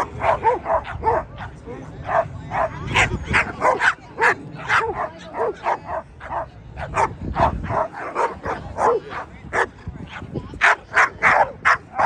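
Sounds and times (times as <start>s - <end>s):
dog barking: 0.2s - 9.7s, 10.6s - 12.0s.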